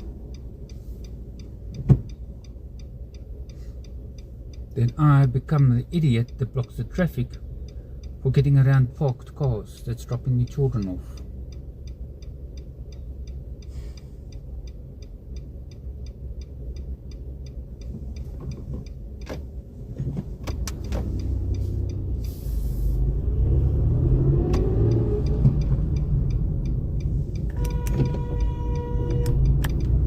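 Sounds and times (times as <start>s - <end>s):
car engine and road rumble: 0.0s - 30.0s
turn signal ticking: 0.0s - 30.0s.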